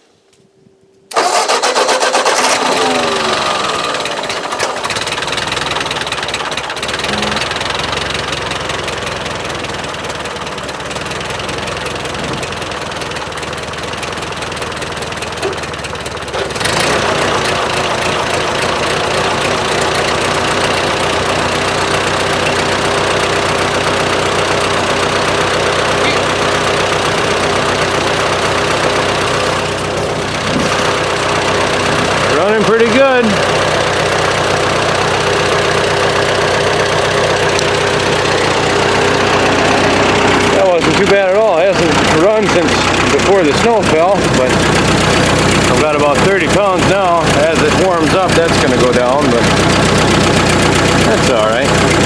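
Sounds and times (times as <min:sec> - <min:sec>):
tractor engine running: 0:01.1 - 0:52.0.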